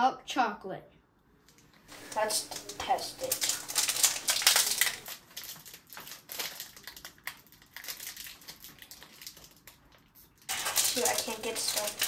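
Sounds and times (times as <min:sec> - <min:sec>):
wrapper crinkling: 0:01.9 - 0:12.0.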